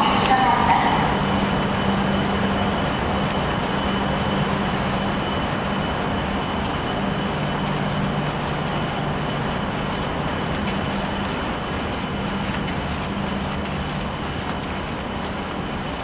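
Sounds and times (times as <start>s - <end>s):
thin high whine: 0.0s - 15.0s
high-speed train running: 0.0s - 16.0s.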